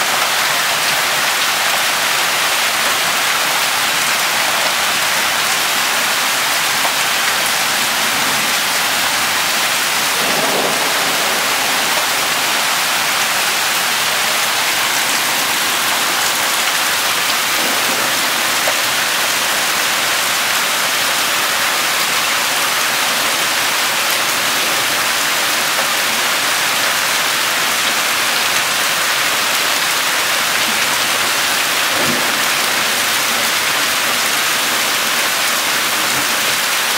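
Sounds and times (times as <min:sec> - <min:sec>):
hail and rain pelting ground: 0:00.0 - 0:36.9.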